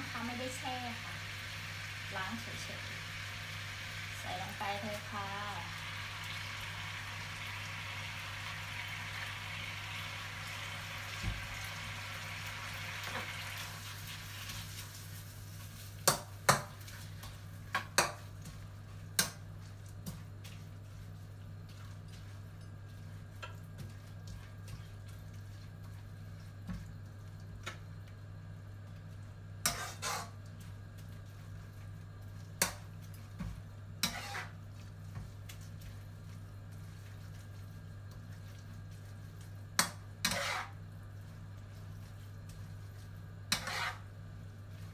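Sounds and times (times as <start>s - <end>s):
noodles sizzling in a wok: 0.0s - 27.4s, 28.4s - 44.9s.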